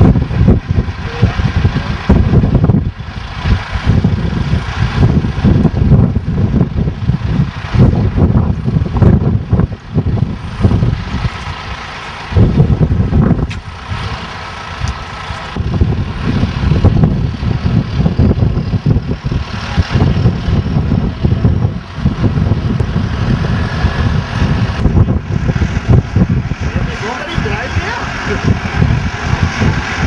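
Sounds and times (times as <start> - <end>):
tractor engine running unevenly: 0.0 - 30.0.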